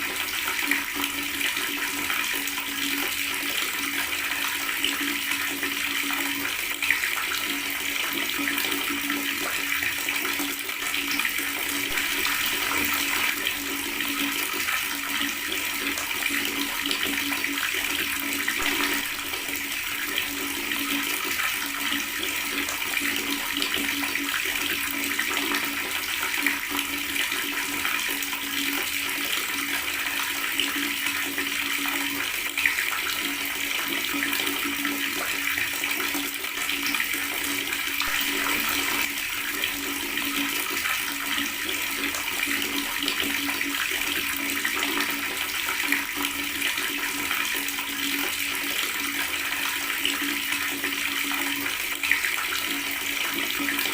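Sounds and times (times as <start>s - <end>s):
tap water running and gurgling: 0.0s - 53.9s.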